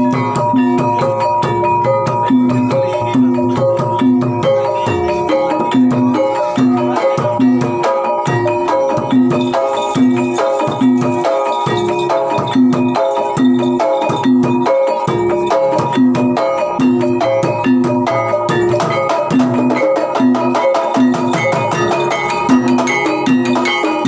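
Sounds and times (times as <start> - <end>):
drums: 0.0 - 24.0
struck tuned percussion: 0.0 - 24.0.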